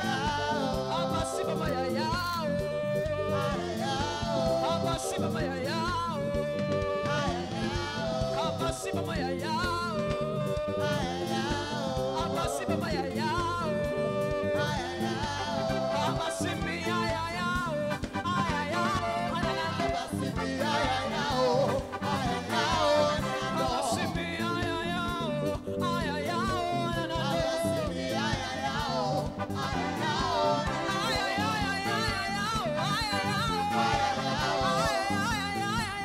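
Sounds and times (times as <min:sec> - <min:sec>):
drums and bass beat: 0:00.0 - 0:36.0
woman singing gospel song: 0:00.0 - 0:36.0.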